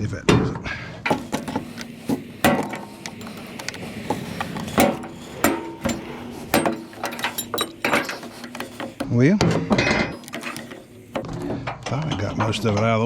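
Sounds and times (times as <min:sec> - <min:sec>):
metal knocks and clanks: 0:00.3 - 0:13.0.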